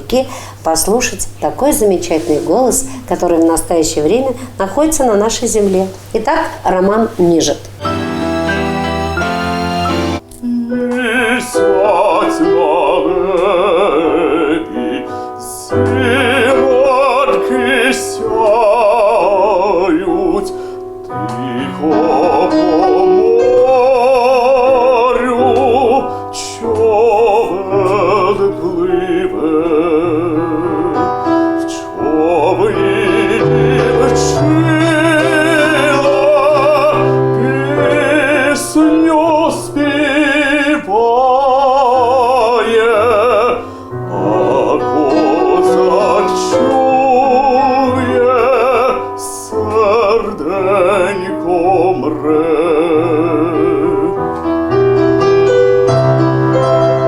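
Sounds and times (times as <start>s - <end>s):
piano accompaniment: 7.6s - 57.0s
man singing operatic song: 7.9s - 54.8s.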